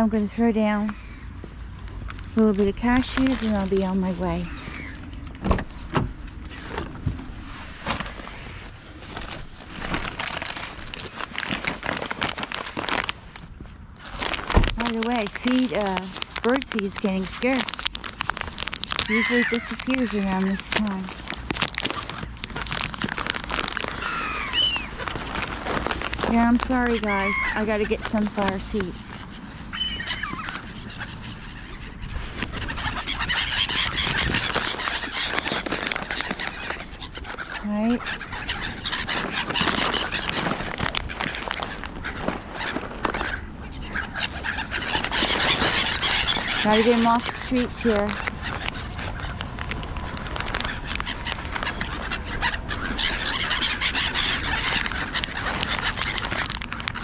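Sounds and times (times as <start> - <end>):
gulls calling: 2.4 - 6.9, 14.8 - 57.0
wings flapping: 7.8 - 13.2, 14.0 - 57.0.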